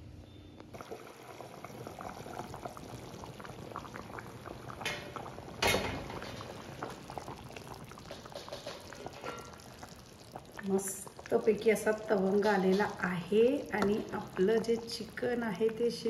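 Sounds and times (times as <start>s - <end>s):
curry bubbling in a pot: 0.7s - 16.0s.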